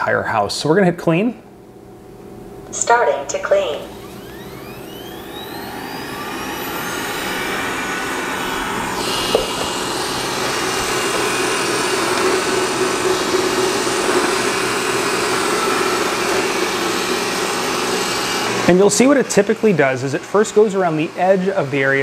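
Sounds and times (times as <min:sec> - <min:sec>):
robot vacuum fan whirring: 0:02.7 - 0:22.0.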